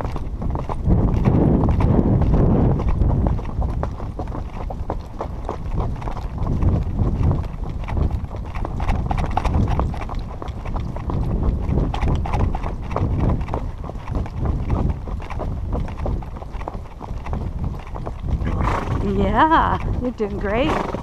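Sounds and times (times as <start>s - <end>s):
horse hoofbeats on dirt: 0.0s - 21.0s.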